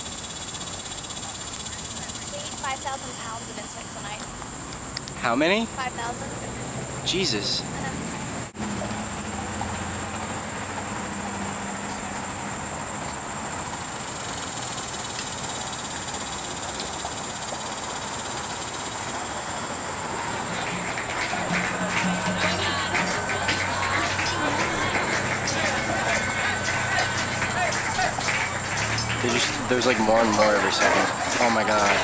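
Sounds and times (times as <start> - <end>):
bats chattering: 0.1 - 8.1, 14.2 - 32.0.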